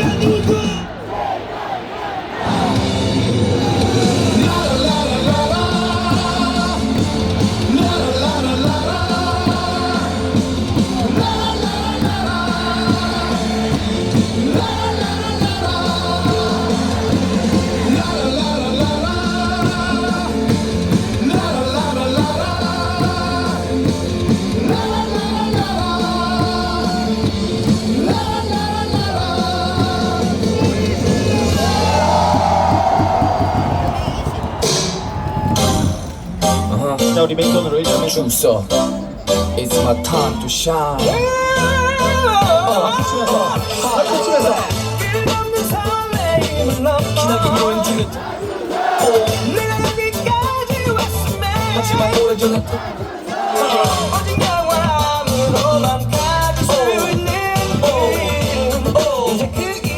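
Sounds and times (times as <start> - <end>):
cheer song over stadium speakers: 0.0 - 59.9
crowd singing and yelling: 0.0 - 59.9.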